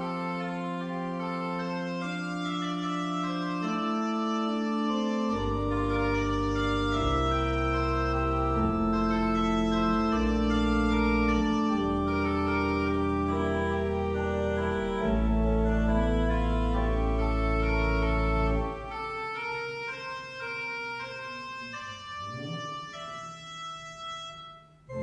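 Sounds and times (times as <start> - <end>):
deep organ pedal bass notes: 0.0 - 25.0
organ playing sustained chords: 0.0 - 25.0.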